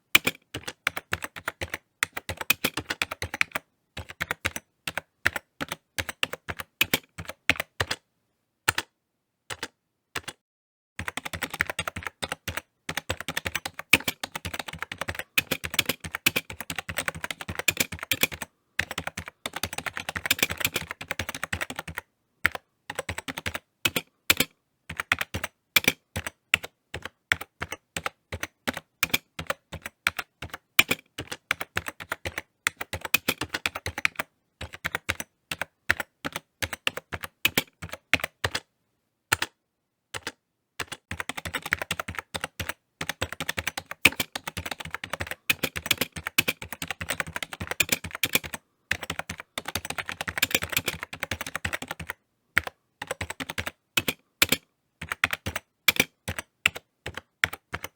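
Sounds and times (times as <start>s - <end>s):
computer keyboard typing: 0.0s - 8.0s, 8.7s - 8.9s, 9.5s - 10.4s, 11.0s - 38.7s, 39.3s - 57.9s.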